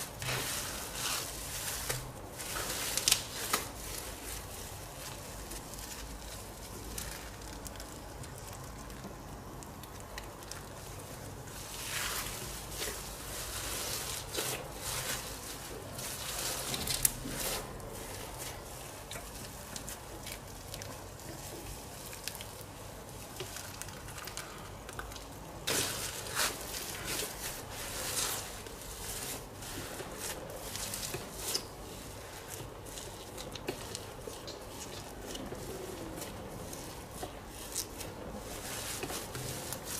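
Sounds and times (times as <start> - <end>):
faint steady hum: 0.0 - 39.9
slime squishing and crackling: 0.0 - 39.9.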